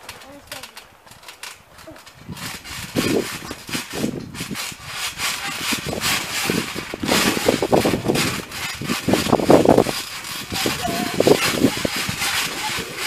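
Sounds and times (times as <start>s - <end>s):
trampoline mat thumping: 0.0s - 13.0s.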